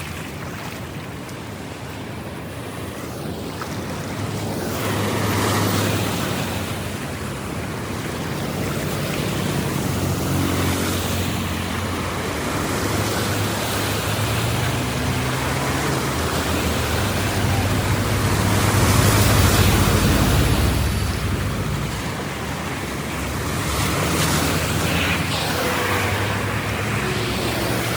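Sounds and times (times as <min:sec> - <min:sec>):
water rushing and churning: 0:00.0 - 0:27.9.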